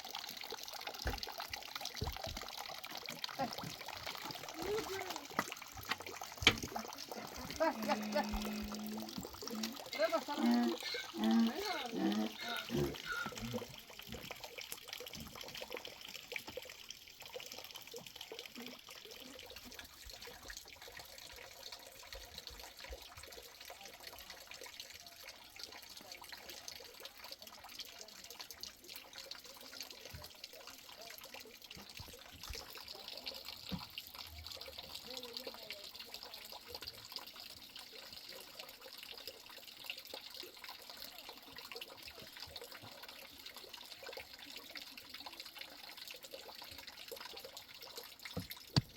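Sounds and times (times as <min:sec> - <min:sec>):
water running and trickling: 0:00.0 - 0:48.9.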